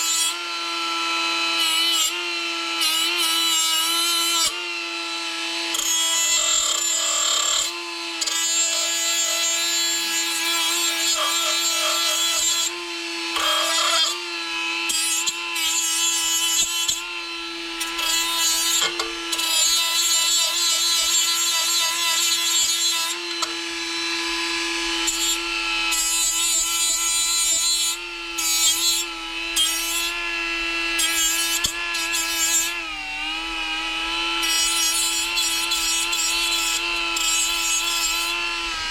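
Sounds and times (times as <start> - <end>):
electric grinder grinding metal: 0.0 - 38.9.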